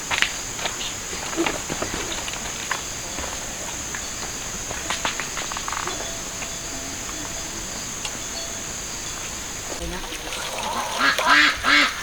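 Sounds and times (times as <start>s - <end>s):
insect chorus buzzing: 0.0s - 12.0s
faint clicks and rustles: 0.1s - 11.3s.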